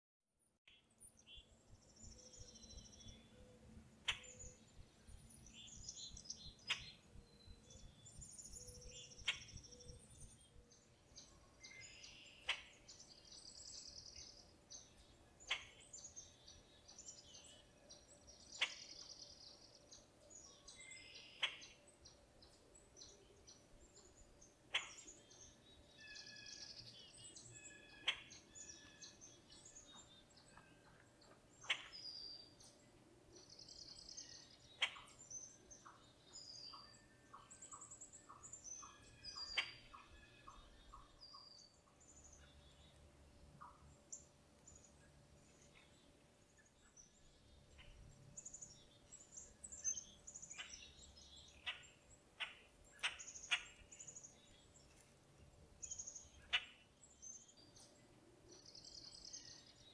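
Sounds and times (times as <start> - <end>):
birds chirping: 1.1 - 59.9.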